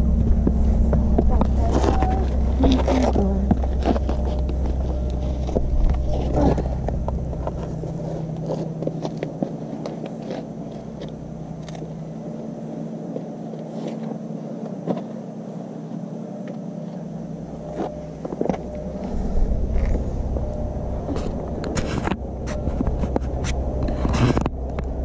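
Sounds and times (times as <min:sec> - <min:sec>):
deep rumble: 0:00.0 - 0:14.6, 0:15.4 - 0:25.0
distant engine hum: 0:00.0 - 0:25.0.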